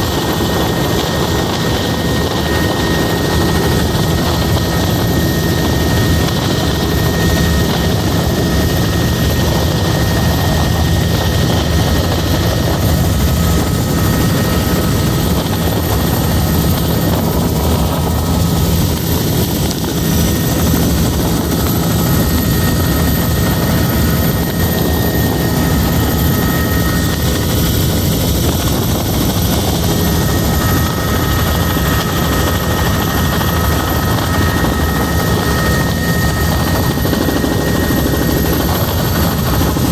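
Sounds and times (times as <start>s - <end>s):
helicopter cabin noise: 0.0s - 39.9s
thin steady whine: 0.0s - 39.9s.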